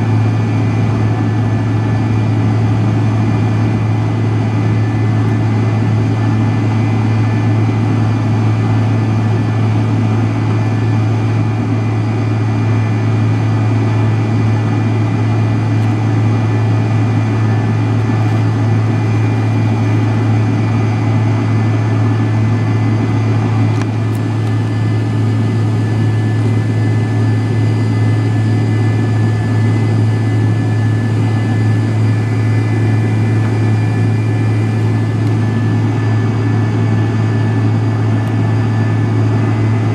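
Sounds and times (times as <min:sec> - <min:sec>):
low jet engine drone: 0:00.0 - 0:39.9.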